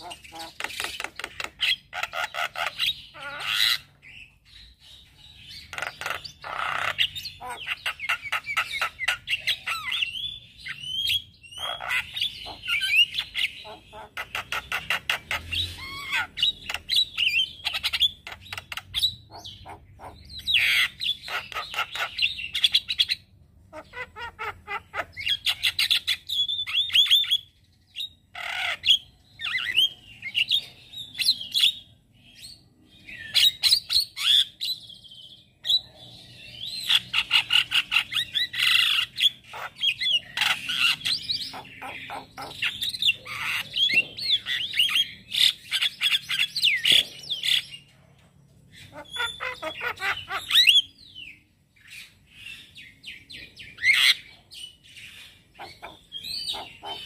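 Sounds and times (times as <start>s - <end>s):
bird chattering song: 0.0s - 57.0s.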